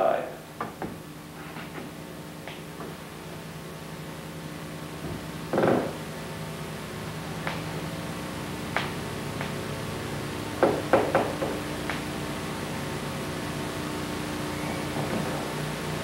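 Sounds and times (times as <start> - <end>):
recording hiss and hum: 0.0 - 16.0.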